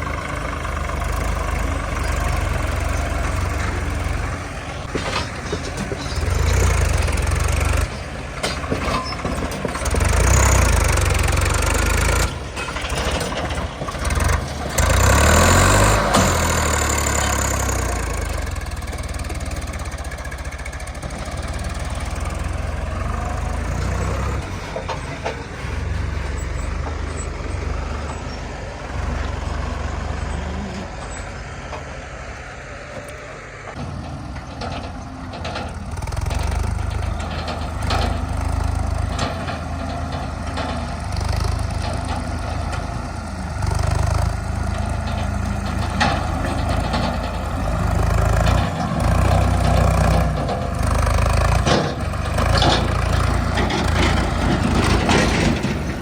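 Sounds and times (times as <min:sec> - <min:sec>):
metal knocks and clanks: 0:00.0 - 0:32.1, 0:33.7 - 0:56.0
heavy diesel engines running: 0:00.0 - 0:56.0.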